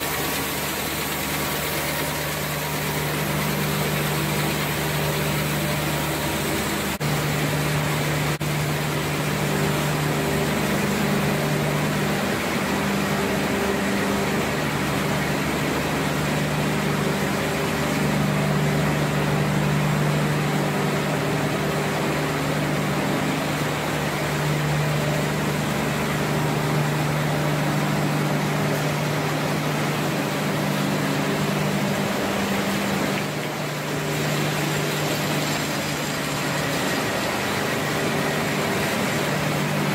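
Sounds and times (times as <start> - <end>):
production line mechanical hum: 0.0 - 39.9.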